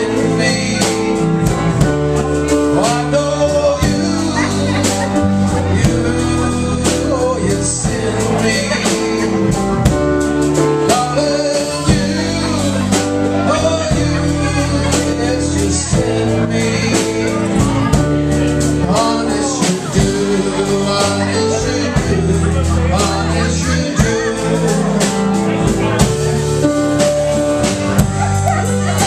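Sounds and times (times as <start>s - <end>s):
drum kit with cymbals: 0.0s - 29.0s
man singing into a microphone: 0.0s - 29.0s
upright bass: 0.0s - 29.0s.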